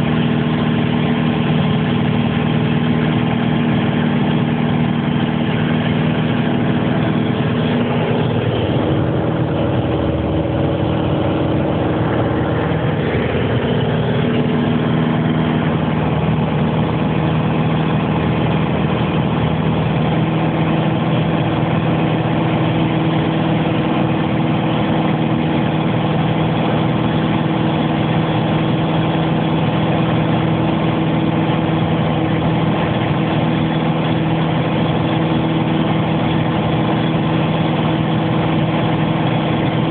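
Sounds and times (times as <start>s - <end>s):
aeroplane engine drone: 0.0s - 39.9s.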